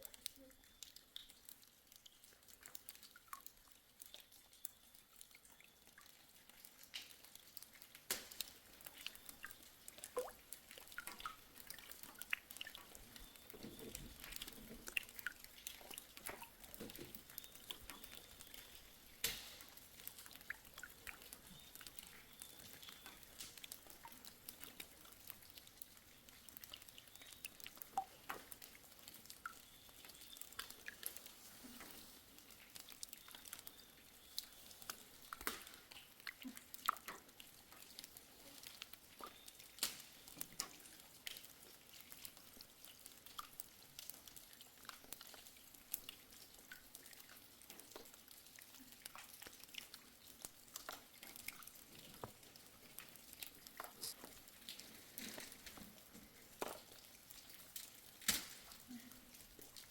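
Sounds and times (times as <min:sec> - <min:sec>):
small clicks and ticks: 0:00.0 - 0:59.9.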